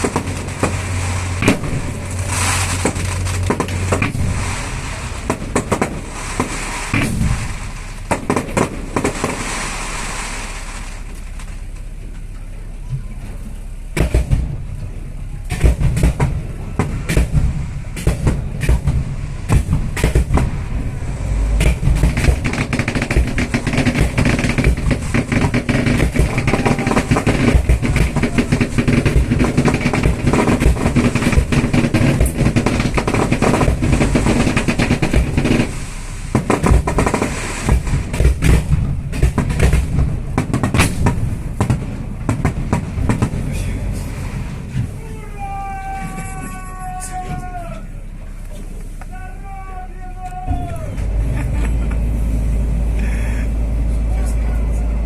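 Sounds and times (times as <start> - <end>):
fireworks bangs and cracks: 0.0 - 12.0, 13.9 - 47.6.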